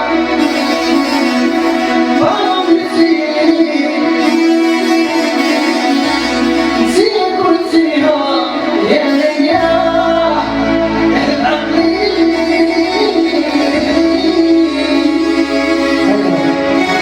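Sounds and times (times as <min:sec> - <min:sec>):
bass: 0:00.0 - 0:17.0
instrumental accompaniment: 0:00.0 - 0:17.0
young man singing: 0:00.0 - 0:17.0.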